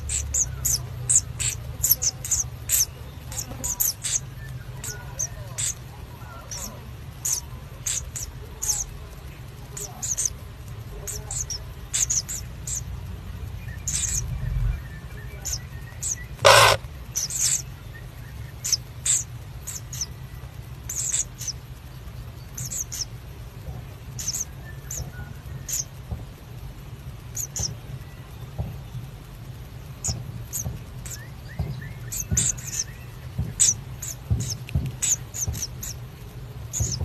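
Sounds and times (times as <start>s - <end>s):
bird chicks squeaking: 0.0s - 37.0s
harsh hiss: 0.0s - 37.0s
steady low hum: 0.0s - 37.0s.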